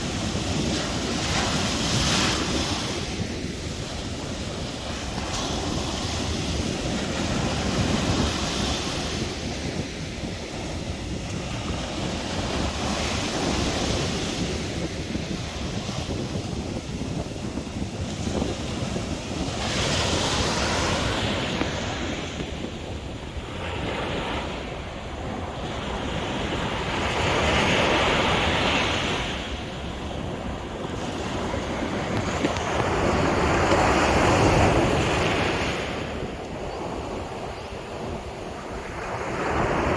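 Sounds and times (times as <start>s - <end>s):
sea waves washing in: 0.0s - 39.9s
wind buffeting microphone: 0.0s - 39.9s.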